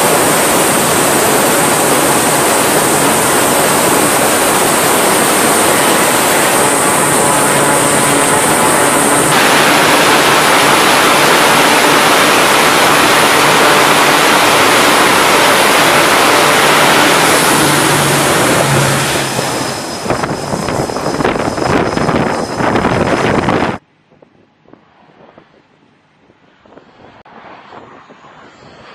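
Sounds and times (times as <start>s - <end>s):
turboprop engines roaring: 0.0s - 28.9s.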